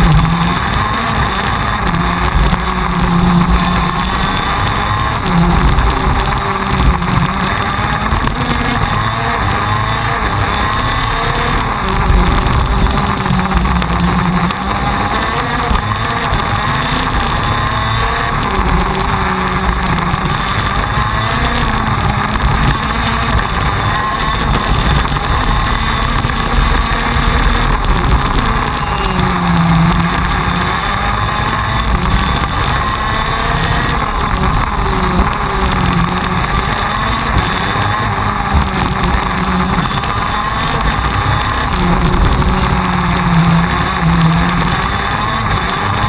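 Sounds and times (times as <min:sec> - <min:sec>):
kart engine revving: 0:00.0 - 0:46.0.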